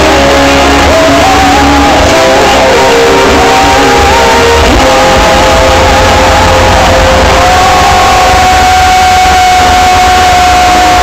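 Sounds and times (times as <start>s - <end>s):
crowd cheering and shouting: 0.0s - 11.0s
rock band long held notes: 0.0s - 11.0s.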